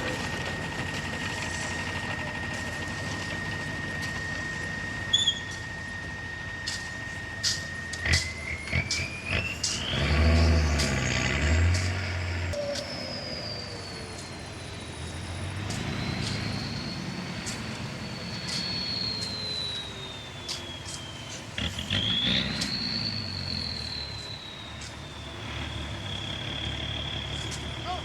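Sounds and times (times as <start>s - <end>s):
earthmoving machinery running: 0.0s - 28.0s.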